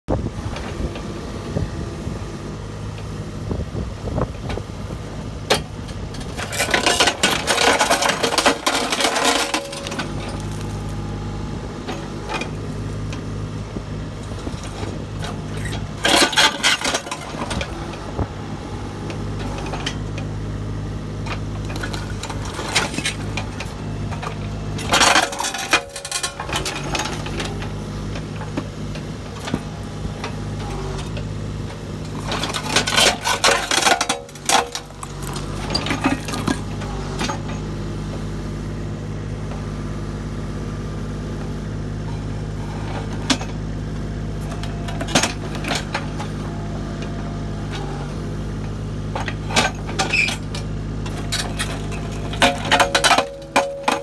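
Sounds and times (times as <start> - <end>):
digger engine running: 0.1 - 54.0.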